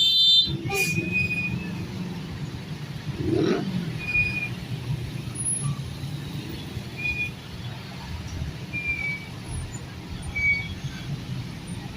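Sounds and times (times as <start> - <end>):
vehicle engines rumbling: 0.0 - 11.9.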